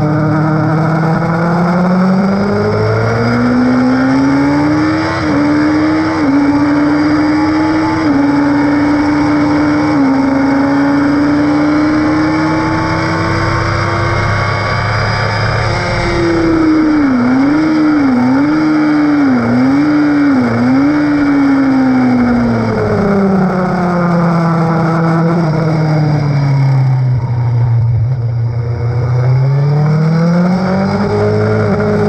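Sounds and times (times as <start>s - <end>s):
motorcycle engine downshifting: 0.0s - 32.0s.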